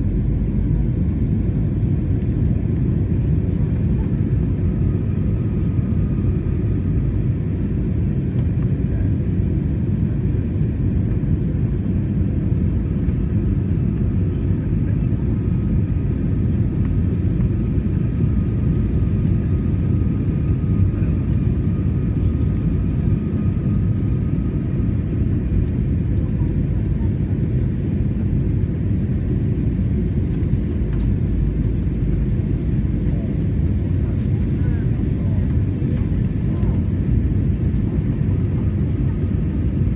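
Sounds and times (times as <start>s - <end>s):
airliner engine rumble in cabin: 0.0s - 39.9s.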